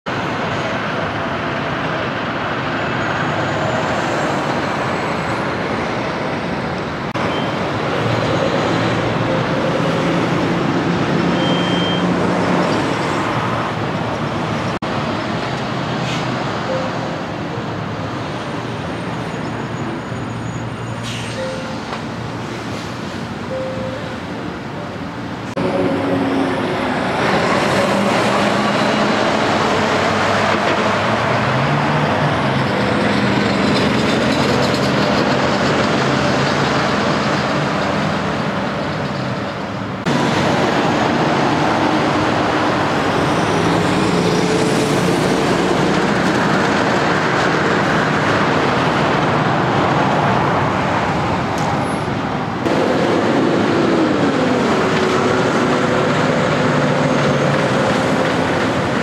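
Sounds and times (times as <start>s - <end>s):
road traffic passing: 0.1s - 59.0s
truck diesel engines: 0.1s - 59.0s.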